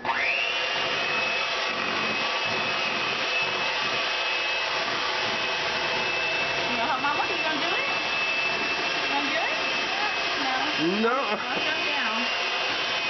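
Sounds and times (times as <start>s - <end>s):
electric mixer whining: 0.0s - 13.0s.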